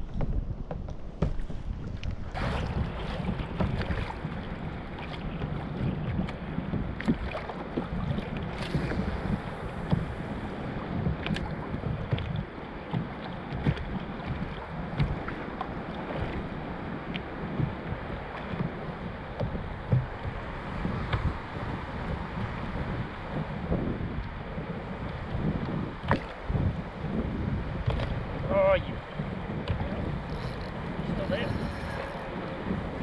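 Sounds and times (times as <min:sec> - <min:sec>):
water lapping against kayak: 0:00.0 - 0:33.0
wind buffeting microphone: 0:00.0 - 0:33.0.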